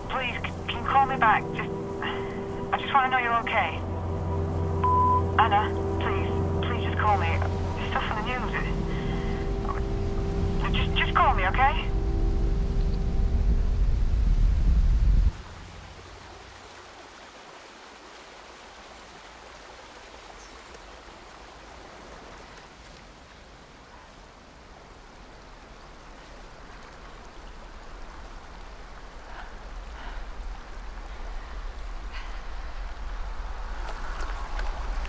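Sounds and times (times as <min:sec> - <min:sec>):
low wind rumble: 0:00.0 - 0:17.8, 0:20.9 - 0:35.0.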